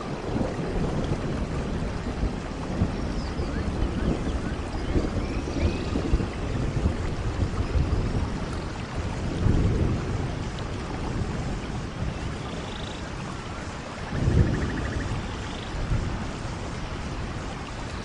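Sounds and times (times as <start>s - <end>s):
rolling thunder rumbles: 0.0s - 18.0s
steady rain in forest: 0.0s - 18.0s.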